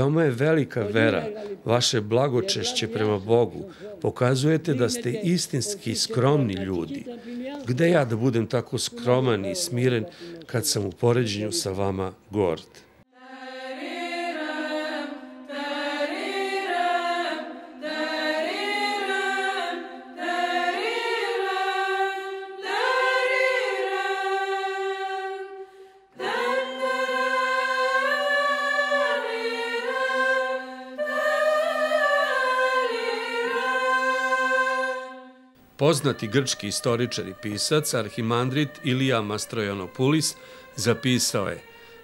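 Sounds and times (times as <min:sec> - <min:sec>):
choir chanting a cappella: 0:00.0 - 0:12.1, 0:13.0 - 0:42.0.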